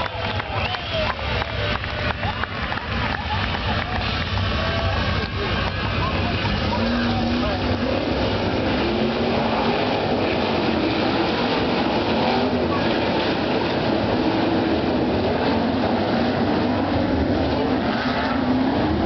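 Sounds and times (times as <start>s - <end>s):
race car engines roaring together: 0.0s - 19.0s.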